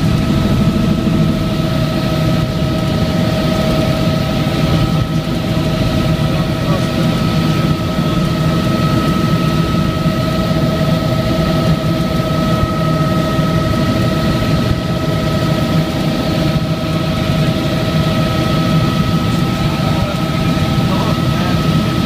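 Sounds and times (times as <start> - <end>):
helicopter rumble: 0.0 - 22.0
helicopter whine: 0.0 - 22.0.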